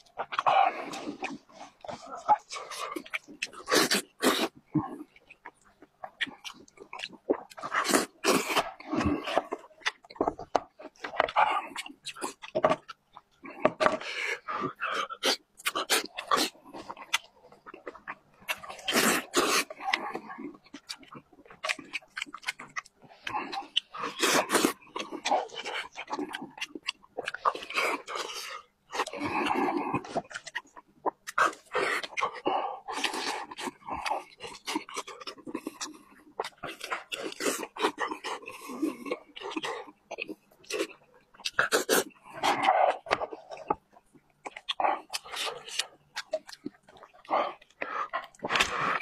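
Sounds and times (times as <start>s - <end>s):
wet chewing and smacking: 0.0s - 49.0s.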